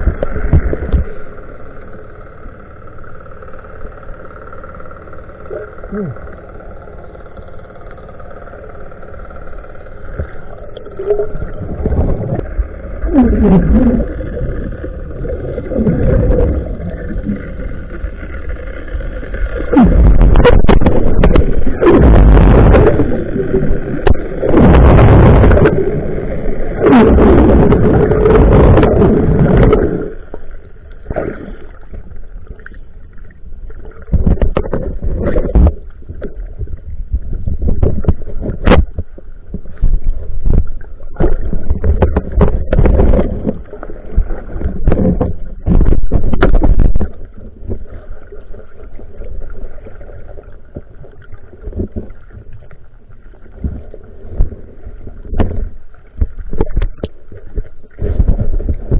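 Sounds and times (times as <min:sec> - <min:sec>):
underwater knocks and clicks: 0:00.0 - 0:01.9, 0:09.3 - 0:58.9
underwater rushing and bubbling: 0:00.0 - 0:58.9.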